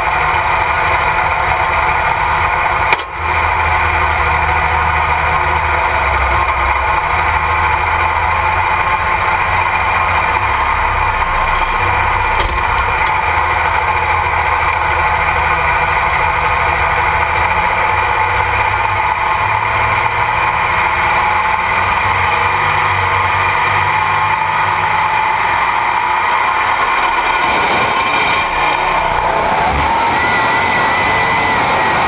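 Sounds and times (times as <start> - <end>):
tractor engine idling: 0.0 - 32.0.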